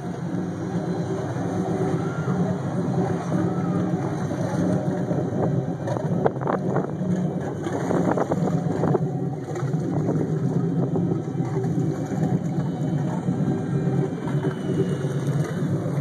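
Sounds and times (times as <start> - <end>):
boat engine idling: 0.0 - 16.0
wind on microphone: 0.0 - 16.0.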